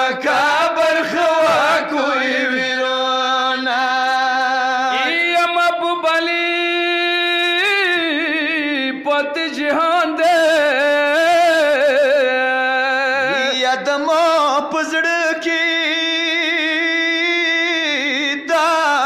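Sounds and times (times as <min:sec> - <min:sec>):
person singing a lament: 0:00.0 - 0:19.0.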